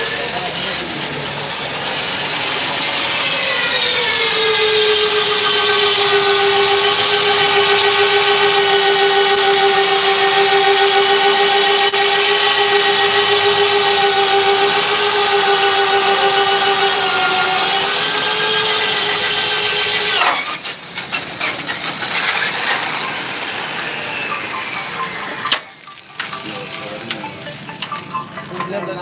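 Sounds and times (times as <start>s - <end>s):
electric drill boring into steel: 0.0s - 27.9s.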